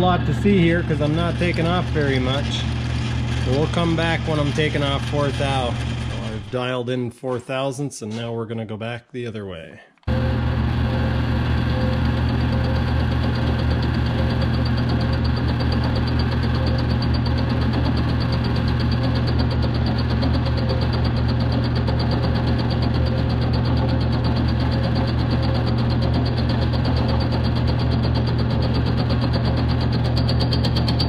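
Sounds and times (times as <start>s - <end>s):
milling machine humming and ticking: 0.0s - 6.5s, 10.1s - 31.0s.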